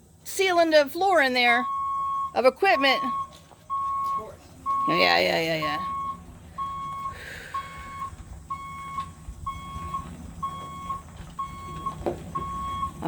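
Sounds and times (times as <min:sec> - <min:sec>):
truck engine rumble: 0:00.0 - 0:13.0
truck reversing alarm beeping: 0:00.0 - 0:13.0.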